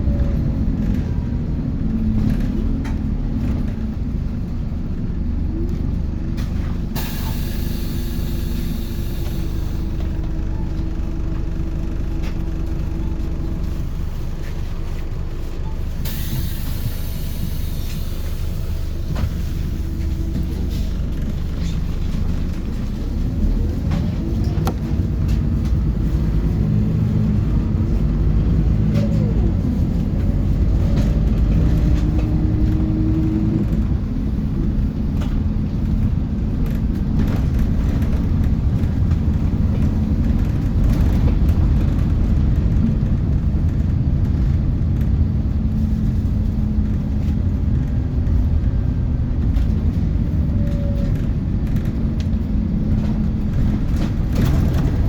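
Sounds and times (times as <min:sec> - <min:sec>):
interior rattles and clicks: 0:00.0 - 0:07.4, 0:08.6 - 0:55.0
bus engine rumble: 0:00.0 - 0:55.0
road noise: 0:00.0 - 0:55.0.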